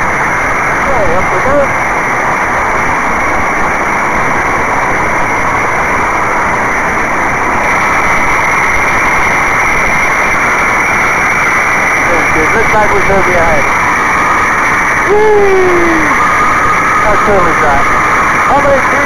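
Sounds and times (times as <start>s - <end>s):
aircraft engine running in flight: 0.0s - 19.0s
rush of airflow: 0.0s - 19.0s.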